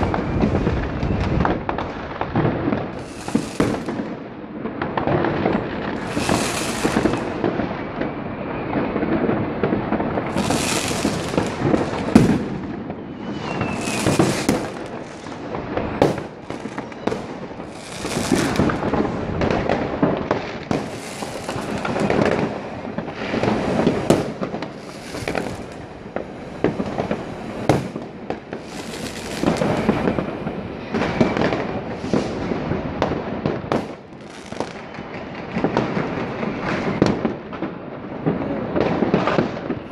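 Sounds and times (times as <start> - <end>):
falling firework whistle: 0.0 - 4.3, 5.2 - 37.3
fireworks crackling and popping: 0.0 - 39.9
loud firework bangs: 0.0 - 39.9.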